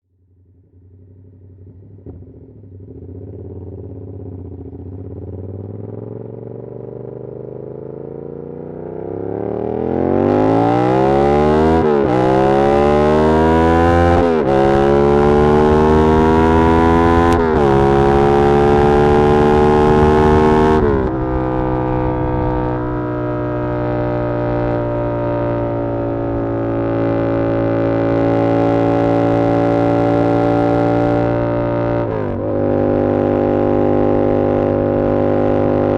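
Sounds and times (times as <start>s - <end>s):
motorcycle engine revving: 0.6s - 35.9s.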